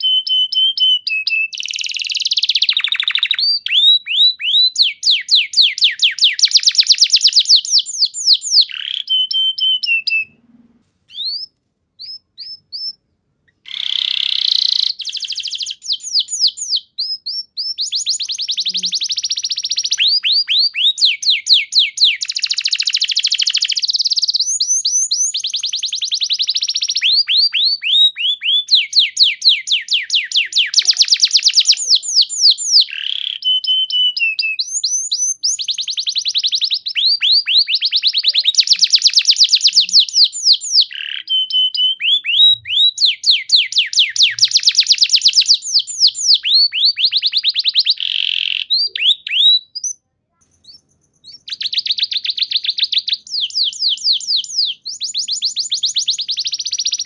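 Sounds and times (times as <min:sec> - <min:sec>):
canary singing trills: 0:00.0 - 0:10.4, 0:11.1 - 0:57.0.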